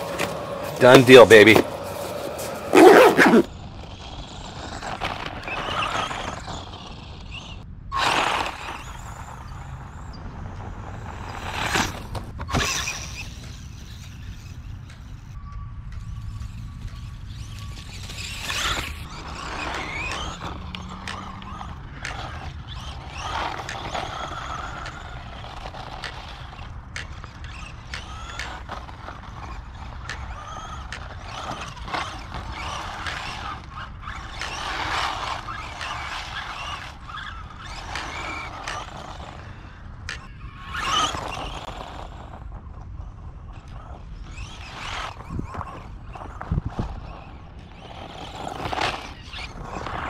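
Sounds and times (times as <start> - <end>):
toy truck electric motor whining: 0.0 - 50.0.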